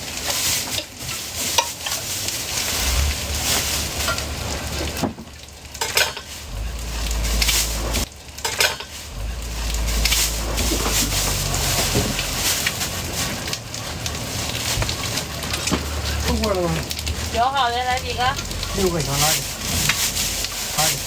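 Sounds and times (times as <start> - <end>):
food sizzling in a pan: 0.0 - 21.0
metal utensils clinking and scraping: 0.0 - 21.0.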